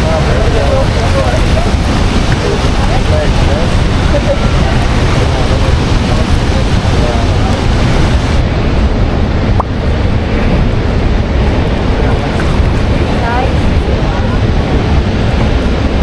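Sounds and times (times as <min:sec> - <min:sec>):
rushing waterfall roar: 0:00.0 - 0:16.0
wind buffeting microphone: 0:00.0 - 0:16.0.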